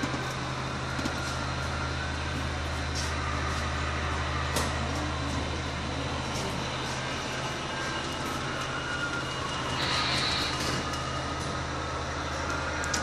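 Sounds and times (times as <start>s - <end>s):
model trains humming and whining: 0.0s - 13.0s.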